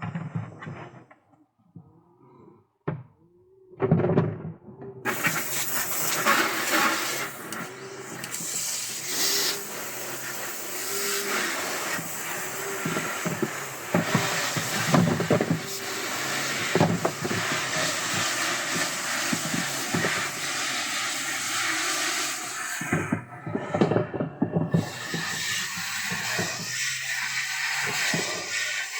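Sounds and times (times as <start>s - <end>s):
steady hiss: 5.1s - 28.9s.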